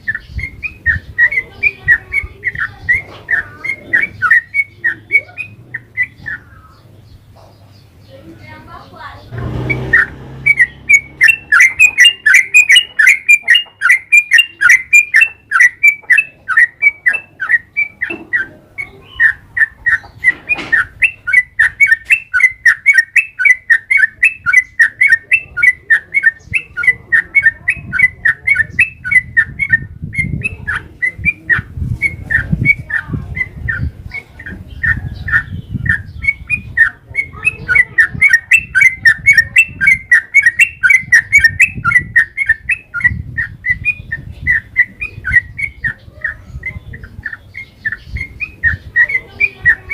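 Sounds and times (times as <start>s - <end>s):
bird singing quick chattering notes: 0.0s - 49.9s.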